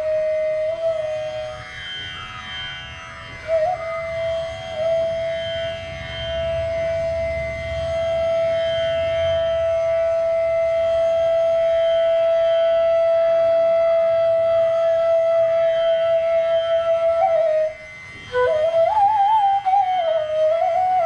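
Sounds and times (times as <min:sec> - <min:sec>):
bamboo flute long steady note: 0:00.0 - 0:21.0
soft steady drone: 0:00.0 - 0:21.0.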